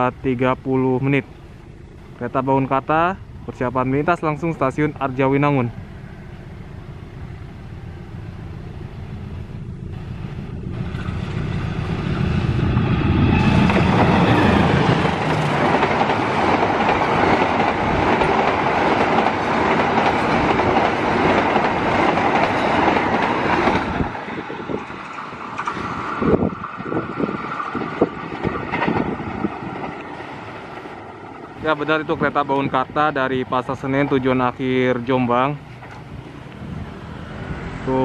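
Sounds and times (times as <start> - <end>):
diesel locomotive engine rumble: 0.0 - 38.0
train wheels rushing on rails: 0.7 - 38.0.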